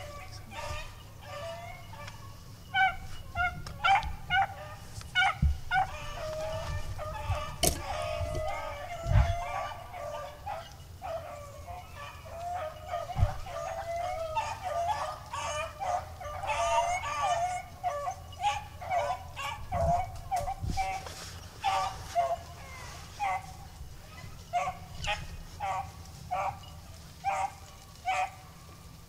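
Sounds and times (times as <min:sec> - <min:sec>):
beagles baying: 0:00.0 - 0:29.0.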